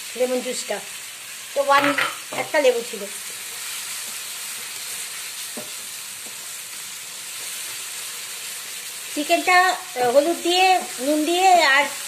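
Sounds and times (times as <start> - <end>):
masala sizzling in frying pan: 0.0 - 12.0.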